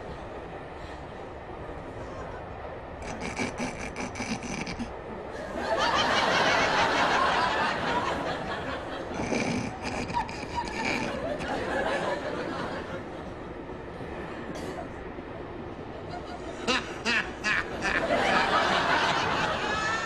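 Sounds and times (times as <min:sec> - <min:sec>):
chuckling: 0:02.0 - 0:15.0, 0:15.6 - 0:20.0
audience laughter: 0:03.0 - 0:14.9, 0:15.7 - 0:20.0.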